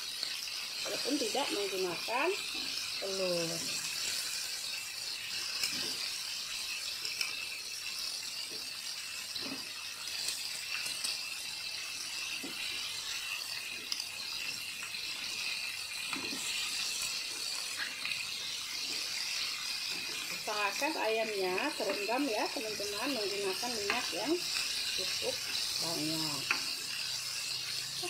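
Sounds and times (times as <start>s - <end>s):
chicken deep-frying in hot oil: 0.0s - 28.0s.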